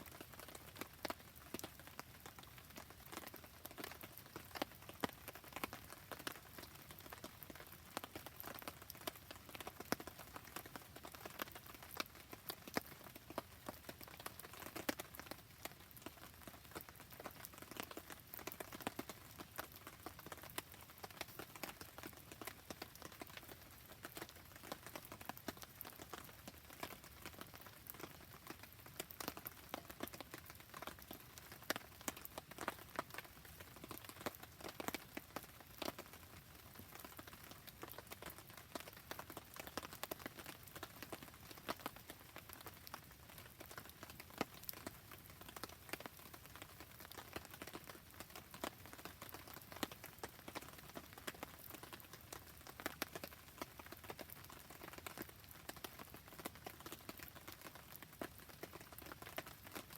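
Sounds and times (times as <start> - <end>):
campfire crackling and popping: 0.1 - 59.9.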